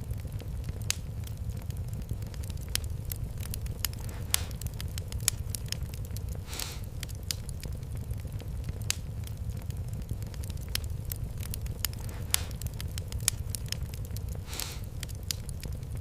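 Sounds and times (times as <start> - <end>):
fire rumble: 0.0 - 16.0
wood fire crackling: 0.0 - 16.0.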